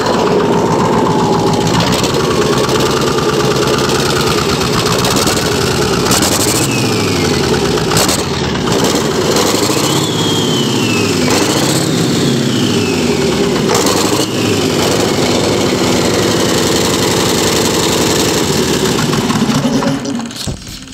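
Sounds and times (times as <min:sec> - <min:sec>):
diesel engine revving: 0:00.0 - 0:20.9.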